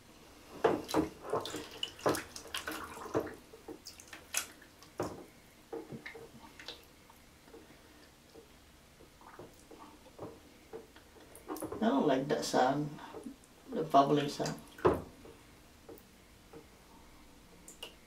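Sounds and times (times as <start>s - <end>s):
water splashing and sloshing: 0.4s - 18.0s.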